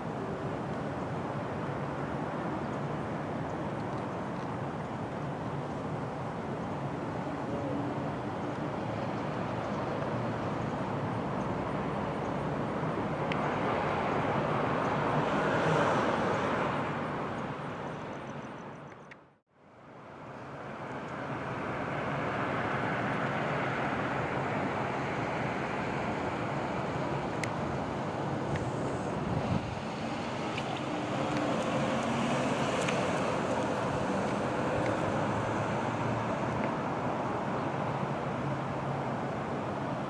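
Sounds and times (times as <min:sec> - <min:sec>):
street traffic rush: 0:00.0 - 0:40.0.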